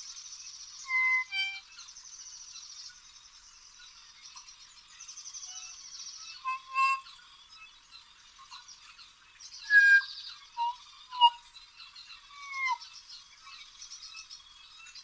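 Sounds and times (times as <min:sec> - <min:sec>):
birds calling and chirping: 0:00.7 - 0:02.1, 0:02.9 - 0:15.0.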